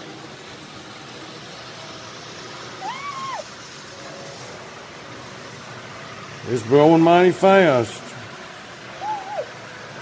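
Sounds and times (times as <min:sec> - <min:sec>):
model train rolling hum: 0:00.0 - 0:10.0.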